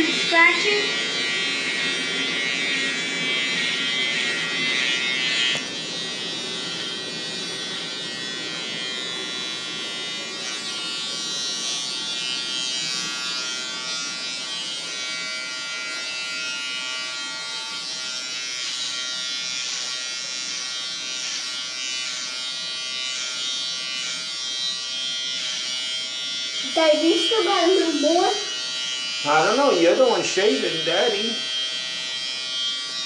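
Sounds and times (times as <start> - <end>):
beard trimmer buzzing: 0.0 - 33.0.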